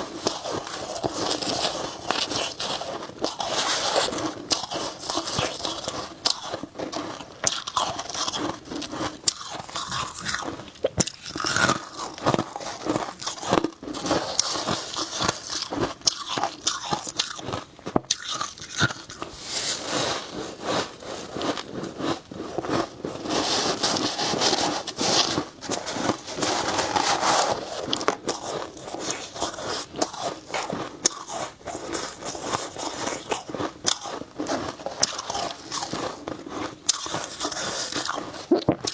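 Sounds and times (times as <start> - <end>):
person chewing crunchy frost: 0.0 - 38.9.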